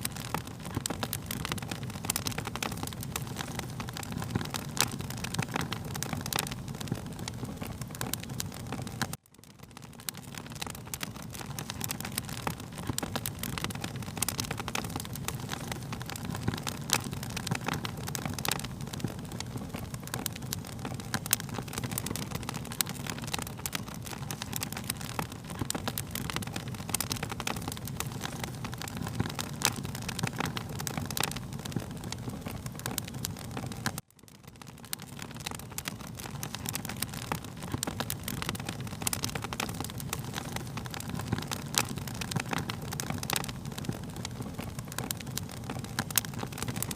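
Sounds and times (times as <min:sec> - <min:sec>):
fire crackling and popping: 0:00.0 - 0:46.9.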